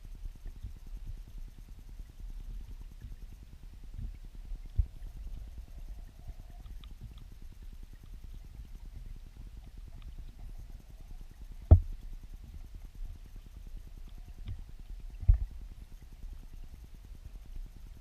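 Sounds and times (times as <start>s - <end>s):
underwater crackle: 0.0s - 18.0s
underwater rumble of moving water: 0.0s - 18.0s.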